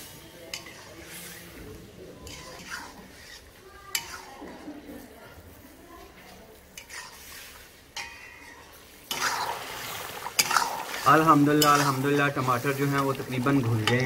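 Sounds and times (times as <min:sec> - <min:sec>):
metal spatula stirring in pan: 0:00.0 - 0:05.2, 0:06.0 - 0:14.0
curry sizzling: 0:00.0 - 0:14.0.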